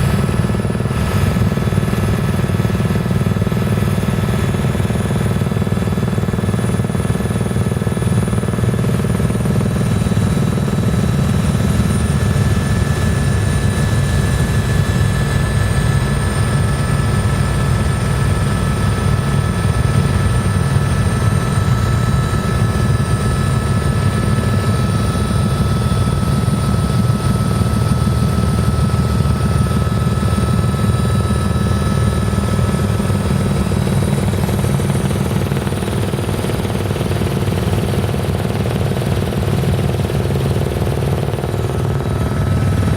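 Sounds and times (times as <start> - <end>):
helicopter rotor drone: 0.0 - 42.9
high turbine whine: 0.0 - 42.9.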